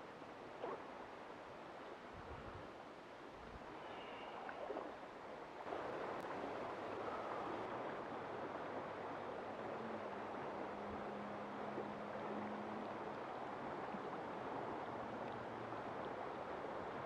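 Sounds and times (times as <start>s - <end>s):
river water rushing: 2.7s - 17.0s.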